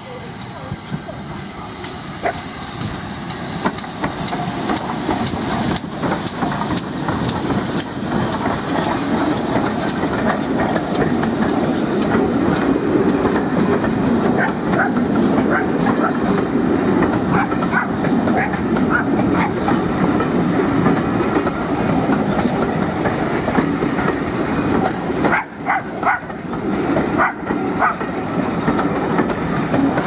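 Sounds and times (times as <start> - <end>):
steam hiss: 0.0 - 30.0
steam locomotive passing: 0.0 - 30.0
coaches clattering over rail joints: 0.1 - 30.0.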